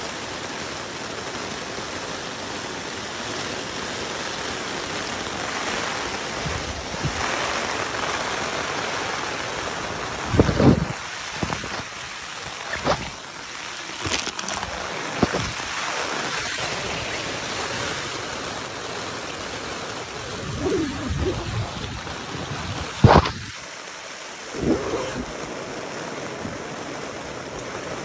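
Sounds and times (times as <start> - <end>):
rain on tent fabric: 0.0 - 28.0
raindrops tapping on tent: 0.0 - 28.0.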